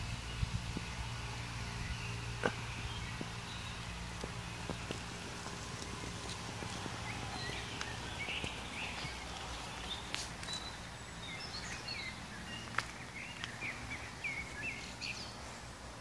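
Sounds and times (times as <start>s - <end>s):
low outdoor background hum: 0.0s - 16.0s
small birds chirping: 0.0s - 16.0s.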